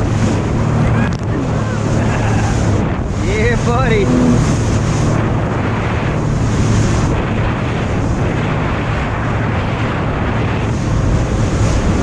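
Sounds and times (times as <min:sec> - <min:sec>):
watercraft engine running: 0:00.0 - 0:12.0
wind noise on microphone: 0:00.0 - 0:12.0.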